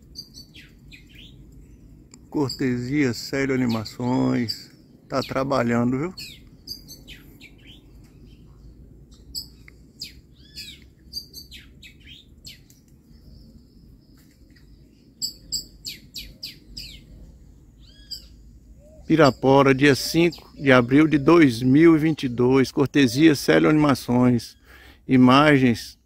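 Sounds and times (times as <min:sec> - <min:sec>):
parakeets chirping: 0:00.0 - 0:01.4, 0:02.4 - 0:12.7, 0:14.6 - 0:24.7
low background rumble: 0:00.0 - 0:22.7.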